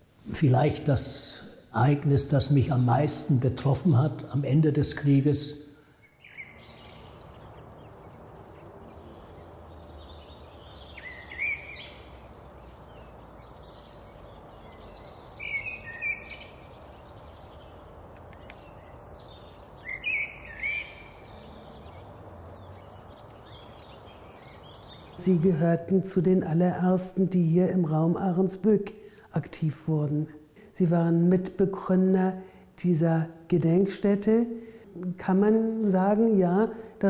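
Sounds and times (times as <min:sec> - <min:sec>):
birds chirping: 0:00.0 - 0:37.0
open air background noise: 0:00.0 - 0:37.0.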